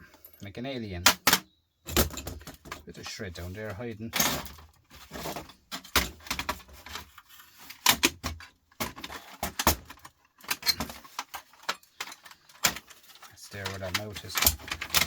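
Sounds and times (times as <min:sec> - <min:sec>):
small scrap parts clattering: 0:01.0 - 0:15.0.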